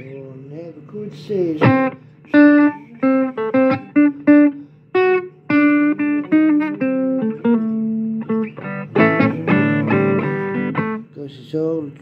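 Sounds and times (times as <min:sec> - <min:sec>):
blues guitar riff: 0:00.8 - 0:11.2.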